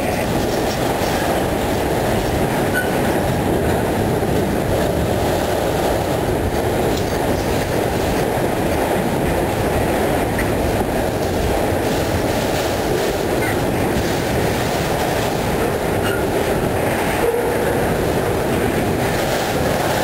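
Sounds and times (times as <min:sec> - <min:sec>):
freight train wheels rumbling on rail: 0:00.0 - 0:20.0.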